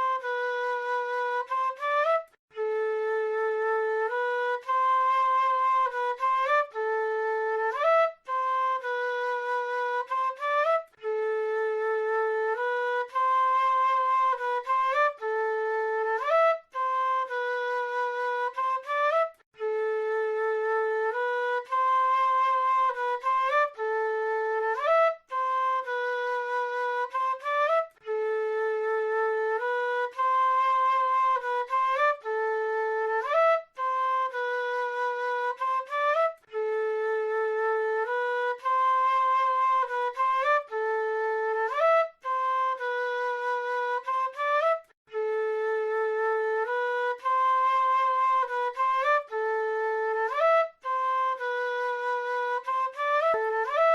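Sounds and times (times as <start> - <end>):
flute playing slow melody: 0.0 - 53.9.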